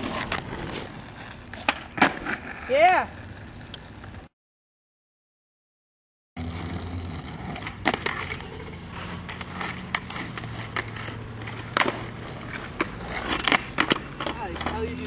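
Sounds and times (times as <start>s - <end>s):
skateboard clacking on ground: 0.0s - 4.2s, 7.1s - 15.0s
skateboard wheels rolling on asphalt: 0.0s - 4.3s, 6.4s - 15.0s.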